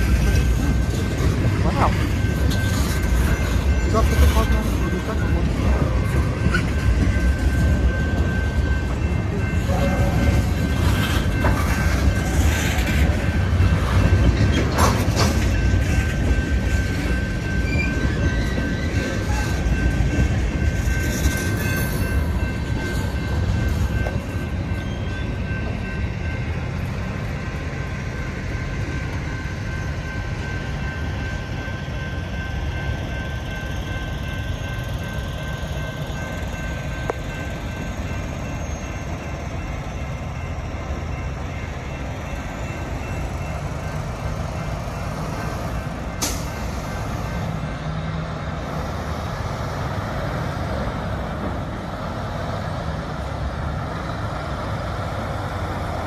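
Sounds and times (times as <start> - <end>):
crossing signal bell ringing: 0.0 - 56.0
freight train wheels rumbling and clanking: 0.0 - 56.0.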